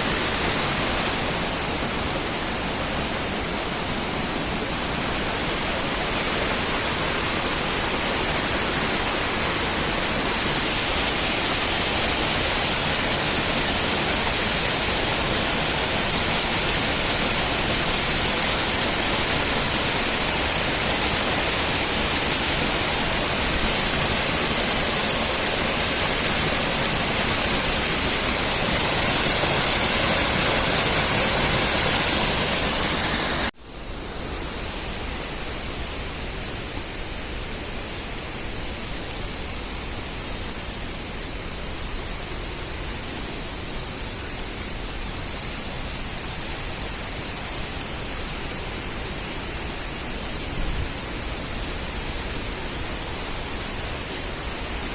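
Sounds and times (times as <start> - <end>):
high-pitched hiss: 0.0 - 54.9
rushing water: 0.0 - 54.9.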